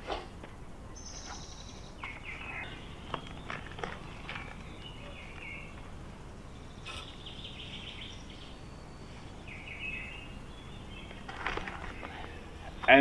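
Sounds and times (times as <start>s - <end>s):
low outdoor background noise: 0.0s - 13.0s
birds chirping: 0.4s - 13.0s.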